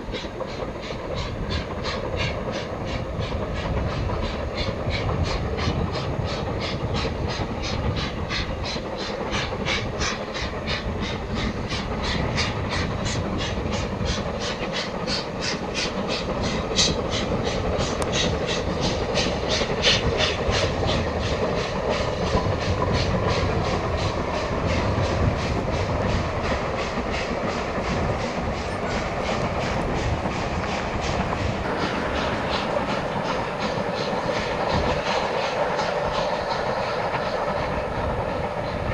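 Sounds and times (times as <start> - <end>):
train rapid even beat: 0.0 - 38.9
train rumble: 0.0 - 38.9.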